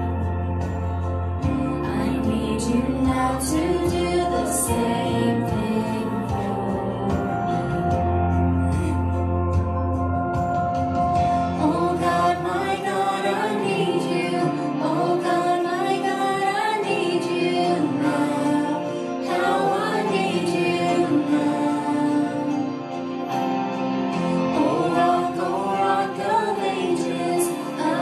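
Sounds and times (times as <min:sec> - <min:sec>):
sustained backing chords: 0:00.0 - 0:28.0
women singing worship song: 0:01.4 - 0:09.0, 0:11.3 - 0:22.8, 0:24.2 - 0:28.0.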